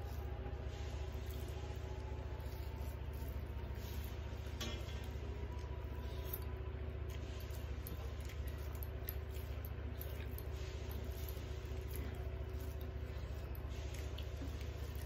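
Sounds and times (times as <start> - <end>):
mouths chewing: 0.0 - 15.0
steady low hum: 0.0 - 15.0.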